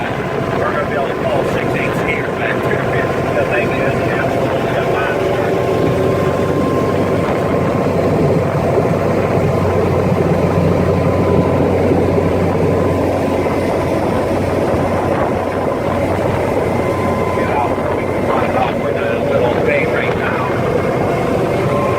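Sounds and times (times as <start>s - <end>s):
boat engine humming: 0.0s - 21.9s.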